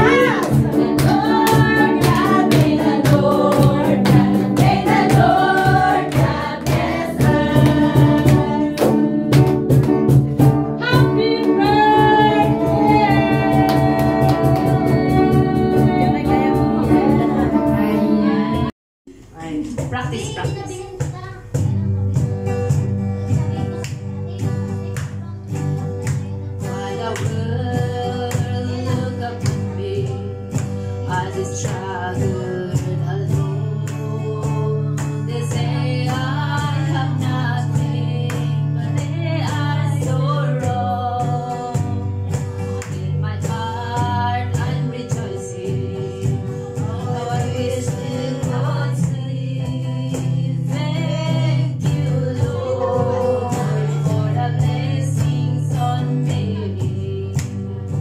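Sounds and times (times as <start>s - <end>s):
woman singing into microphone: 0.0s - 10.1s, 10.8s - 18.7s, 26.2s - 58.0s
strummed guitar: 0.0s - 18.7s, 19.7s - 58.0s.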